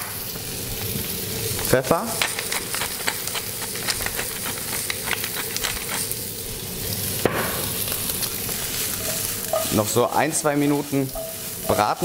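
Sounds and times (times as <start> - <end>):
butter and oil sizzling in a pan: 0.0 - 12.0.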